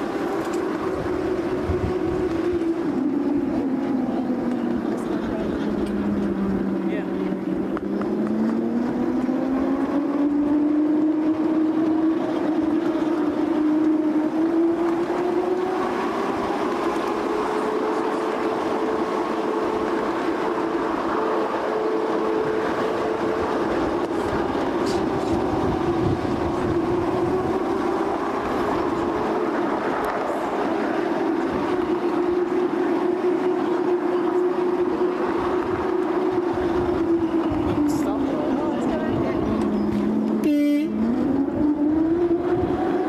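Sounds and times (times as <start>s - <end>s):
droning whine of wheels on rails: 0.0s - 43.0s
train coach rumbling on track: 0.0s - 43.0s.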